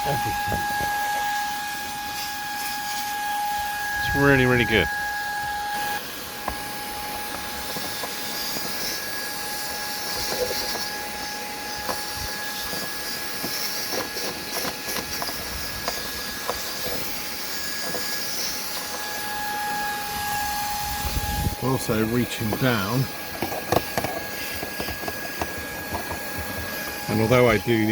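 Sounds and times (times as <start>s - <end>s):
vacuum cleaner suction and whine: 0.0s - 27.9s.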